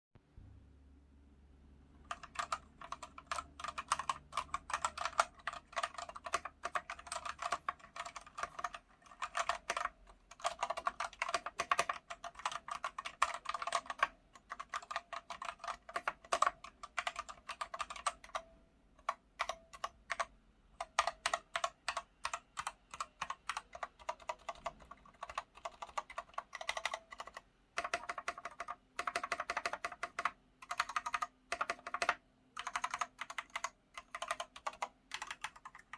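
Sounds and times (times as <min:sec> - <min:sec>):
mechanical keyboard key clacks: 0:02.1 - 0:18.4, 0:20.8 - 0:35.9.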